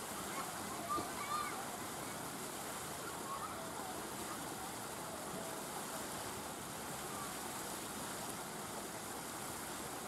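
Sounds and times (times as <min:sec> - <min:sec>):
open-air ambience hiss: 0:00.0 - 0:10.0.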